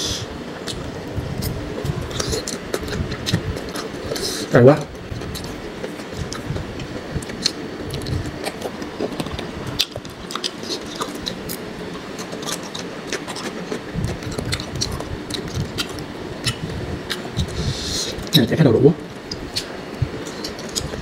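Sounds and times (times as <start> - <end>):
low steady hum: 0.0 - 21.0
close chewing and mouth clicks: 0.6 - 4.5, 5.1 - 18.4, 19.2 - 21.0.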